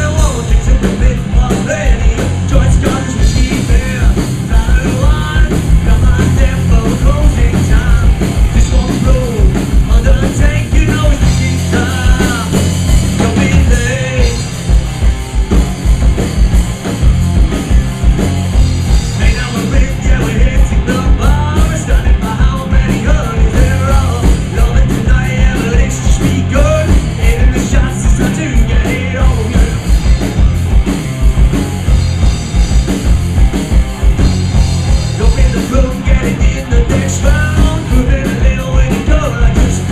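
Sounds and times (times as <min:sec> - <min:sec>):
driving drum kit: 0:00.0 - 0:39.9
heavy bass line: 0:00.0 - 0:39.9
loud rock band: 0:00.0 - 0:39.9.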